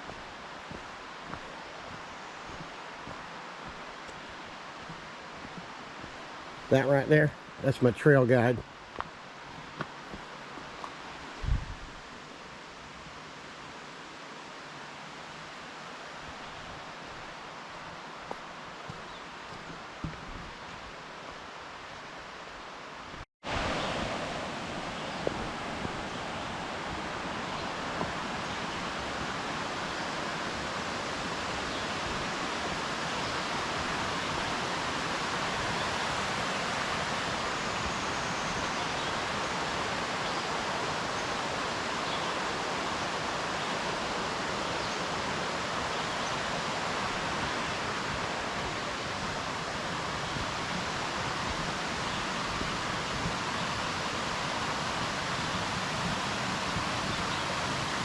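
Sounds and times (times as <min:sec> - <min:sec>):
fast-flowing stream rushing: 0:00.0 - 0:22.1, 0:23.0 - 0:58.0.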